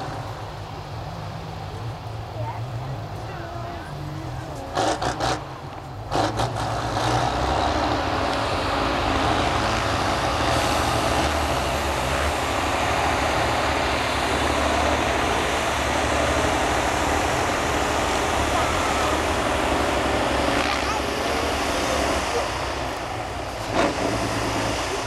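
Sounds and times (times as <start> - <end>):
truck engine running under load: 0.0 - 25.0.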